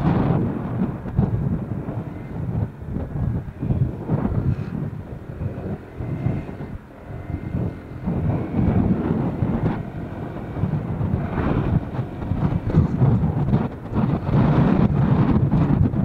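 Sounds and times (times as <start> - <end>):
scooter engine and road noise: 0.0 - 16.0
wind buffeting microphone: 0.0 - 16.0.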